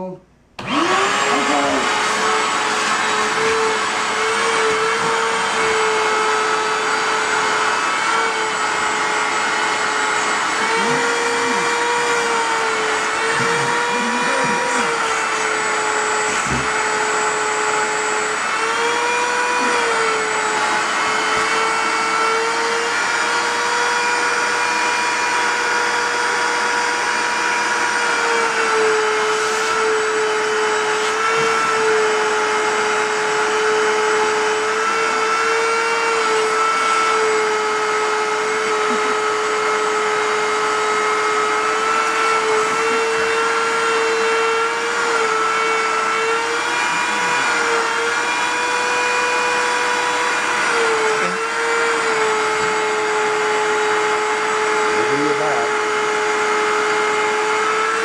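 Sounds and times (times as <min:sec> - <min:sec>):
shop vac motor whine: 0:00.5 - 0:58.0.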